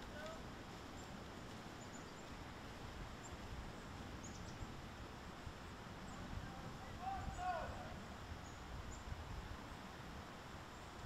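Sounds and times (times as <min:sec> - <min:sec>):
steady background hiss: 0:00.0 - 0:11.0
small birds chirping: 0:00.1 - 0:04.8, 0:05.4 - 0:10.0.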